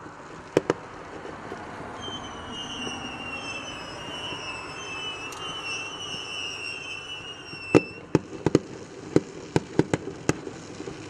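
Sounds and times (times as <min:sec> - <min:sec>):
firework bangs: 0:00.0 - 0:11.0
firework whistling: 0:00.0 - 0:11.0.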